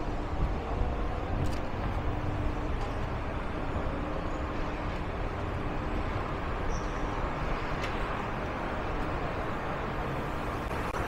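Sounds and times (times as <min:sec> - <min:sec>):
mall interior rumble and hum: 0:00.0 - 0:11.0.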